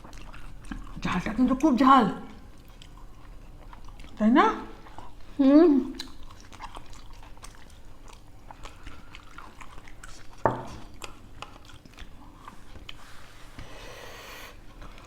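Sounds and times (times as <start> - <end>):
chewing and biting food: 0.0 - 13.4, 14.6 - 15.0.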